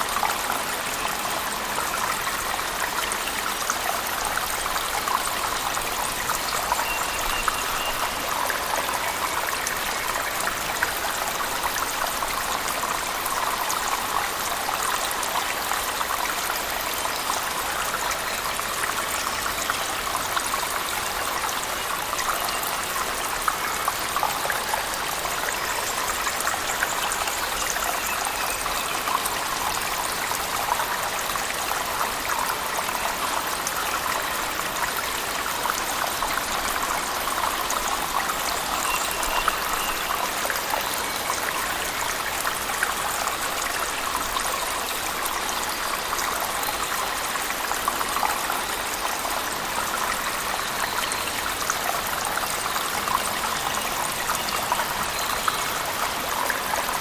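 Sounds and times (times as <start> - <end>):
water drips and splashes: 0.0 - 57.0.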